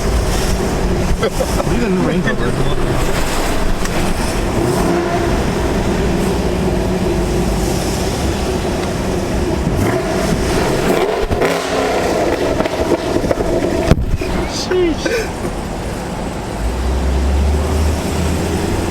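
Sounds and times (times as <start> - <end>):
car exhaust droning: 0.0 - 18.9.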